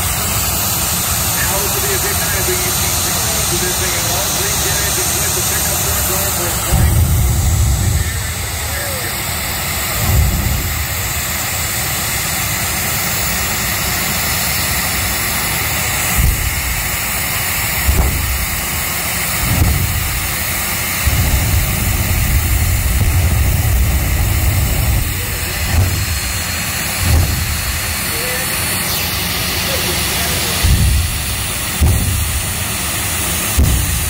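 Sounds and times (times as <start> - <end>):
jet engine roaring: 0.0 - 34.0
deep low rumble: 1.7 - 34.0.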